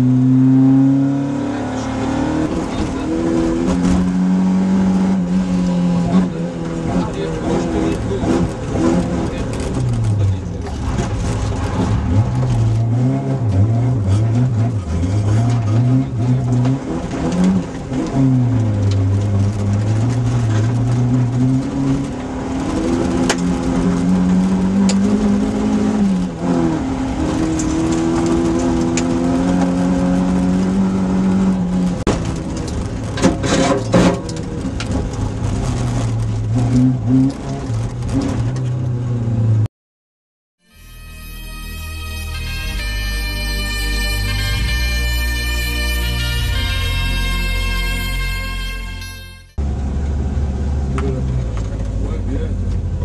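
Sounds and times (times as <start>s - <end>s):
rally car engine revving: 0.0s - 39.7s, 42.2s - 53.0s.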